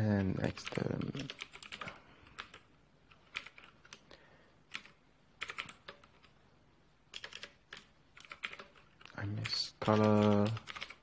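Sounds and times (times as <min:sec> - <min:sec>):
keyboard typing: 0:00.0 - 0:04.1, 0:04.7 - 0:06.4, 0:07.1 - 0:11.0.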